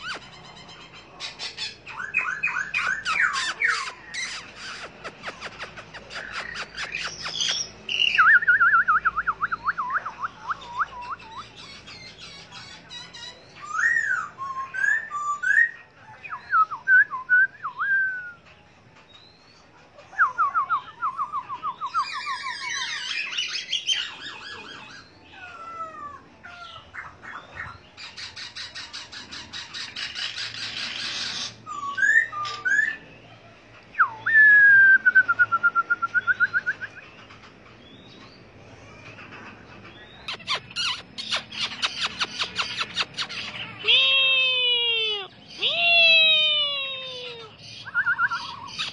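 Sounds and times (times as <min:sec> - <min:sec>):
songbird singing trills: 0:00.0 - 0:48.9.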